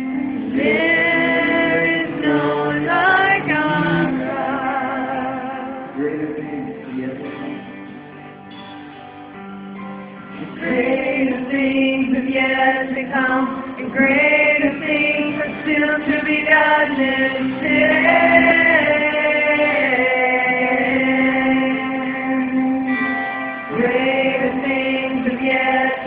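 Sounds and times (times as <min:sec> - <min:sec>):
men and women singing together: 0:00.0 - 0:07.5, 0:10.4 - 0:26.0
soft held accompaniment: 0:00.0 - 0:26.0.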